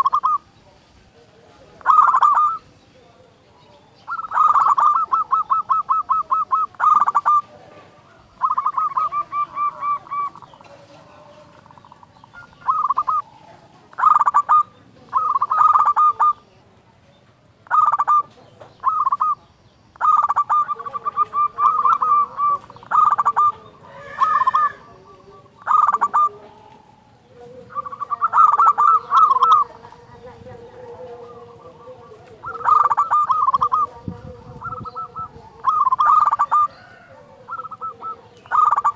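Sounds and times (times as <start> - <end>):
dove cooing: 0.0 - 16.7, 17.5 - 38.9.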